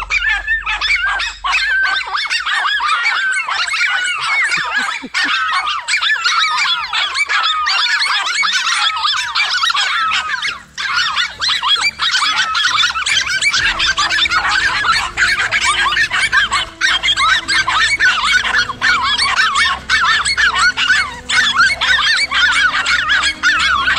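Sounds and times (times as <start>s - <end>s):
dogs barking and yelping: 0.0s - 23.9s
low steady hum: 0.0s - 23.9s.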